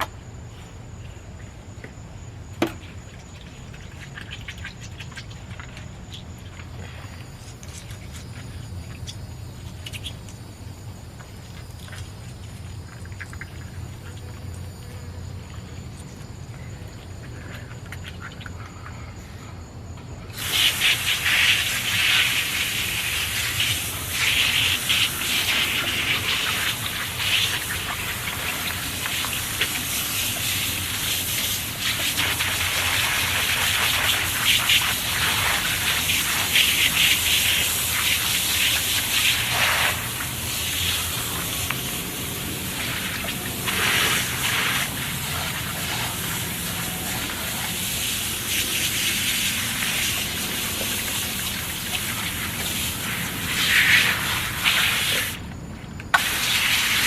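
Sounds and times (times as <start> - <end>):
water spraying and gushing: 2.3 - 14.8, 20.3 - 57.0.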